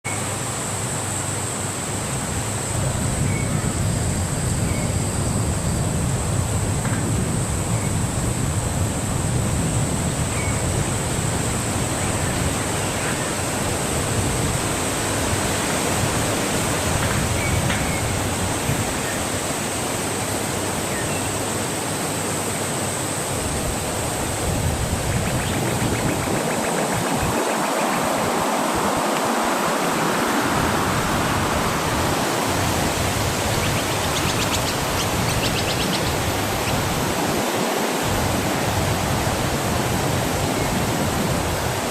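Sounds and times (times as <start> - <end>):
wind rumble on microphone: 1.7 - 21.7, 22.4 - 41.9
wind blowing: 1.9 - 41.9.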